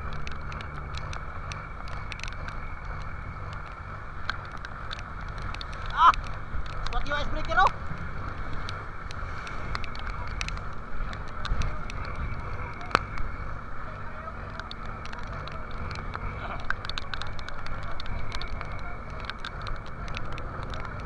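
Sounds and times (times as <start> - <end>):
low boat rumble: 0.0 - 21.0
sharp ticks: 0.0 - 21.0
waves splashing: 0.0 - 21.0
wind: 0.0 - 21.0.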